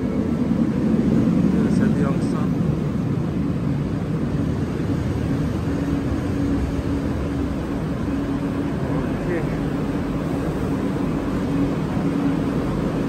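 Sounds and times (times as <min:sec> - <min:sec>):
faint steady hum: 0:00.0 - 0:13.0
train low rumble: 0:00.0 - 0:13.0.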